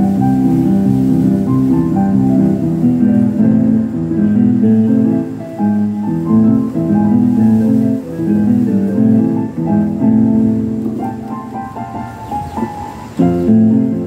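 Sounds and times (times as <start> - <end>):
electronic keyboard piano melody: 0.0 - 14.0.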